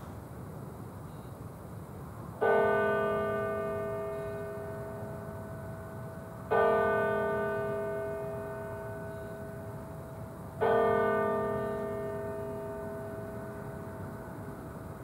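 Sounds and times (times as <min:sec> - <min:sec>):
church bell ringing: 0:02.4 - 0:15.0.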